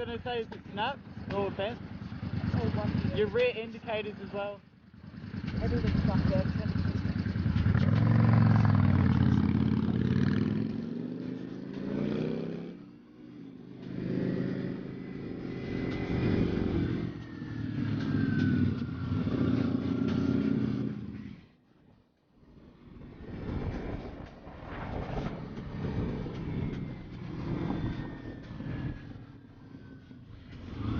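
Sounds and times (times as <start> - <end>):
motorcycle engine revving: 0.8 - 21.5, 22.6 - 30.9.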